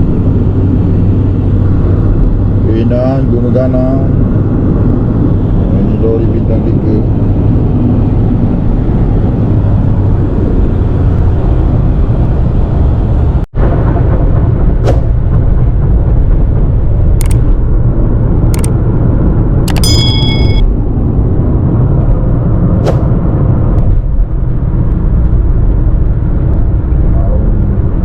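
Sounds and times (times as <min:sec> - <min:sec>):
vehicle road rumble: 0:00.0 - 0:28.0.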